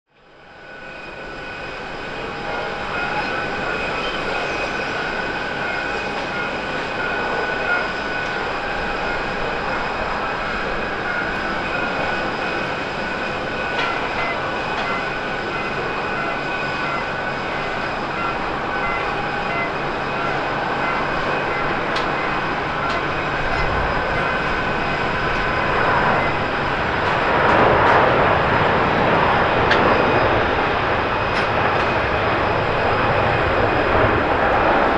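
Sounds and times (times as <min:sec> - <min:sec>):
jet engines roaring on takeoff: 0:00.1 - 0:34.9.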